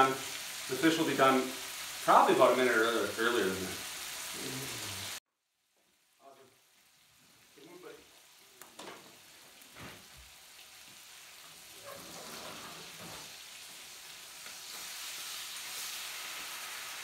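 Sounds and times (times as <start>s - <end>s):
fish sizzling in a pan: 0.0s - 17.0s.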